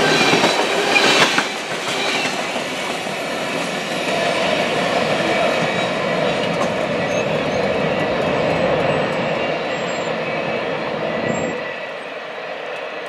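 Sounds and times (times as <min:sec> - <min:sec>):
freight train rumbling on rails: 0:00.0 - 0:13.0.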